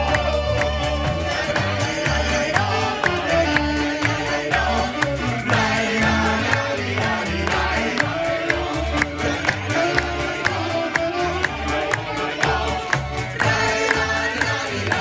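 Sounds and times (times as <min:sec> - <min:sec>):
bouncing bass: 0:00.0 - 0:15.0
live band music: 0:00.0 - 0:15.0.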